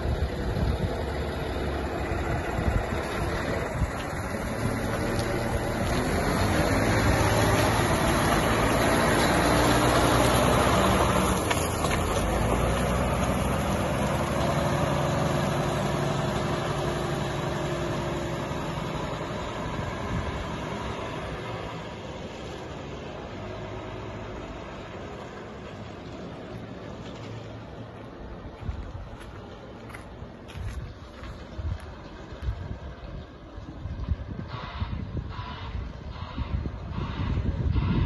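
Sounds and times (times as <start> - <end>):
wheel loader diesel engine: 0.0 - 38.0.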